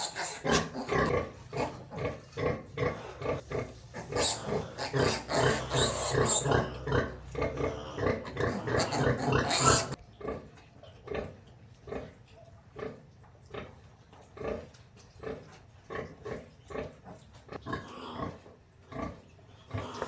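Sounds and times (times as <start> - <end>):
pigs grunting: 0.0 - 12.2, 12.8 - 20.0.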